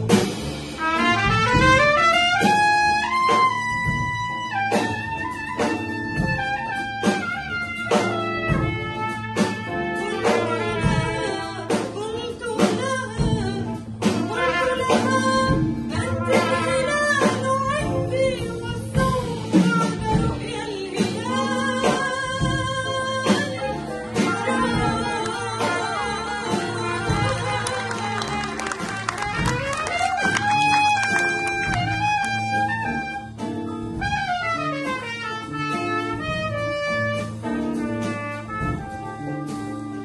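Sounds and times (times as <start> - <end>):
trumpet melody: 0.0 - 18.4, 19.0 - 40.0
big band playing: 0.0 - 40.0.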